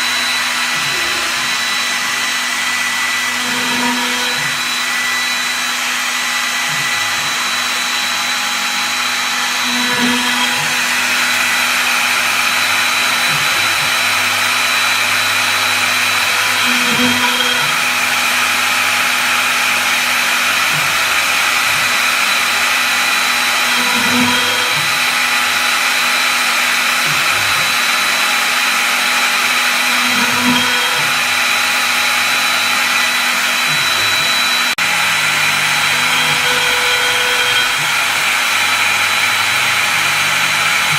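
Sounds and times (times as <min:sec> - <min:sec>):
router spindle motor whine: 0:00.0 - 0:40.9.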